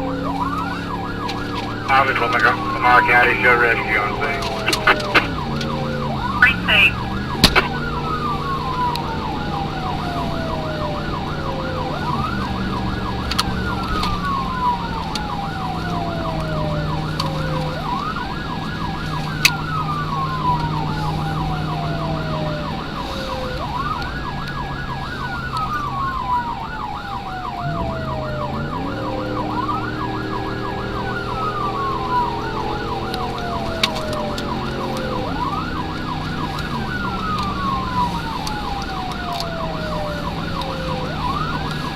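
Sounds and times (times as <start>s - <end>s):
siren wail: 0.0s - 41.9s
siren yelp: 0.0s - 41.9s.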